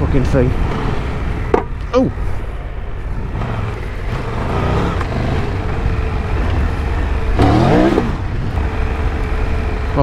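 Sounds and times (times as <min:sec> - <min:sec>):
motorcycle engine revving: 0:00.0 - 0:01.8, 0:02.6 - 0:10.0.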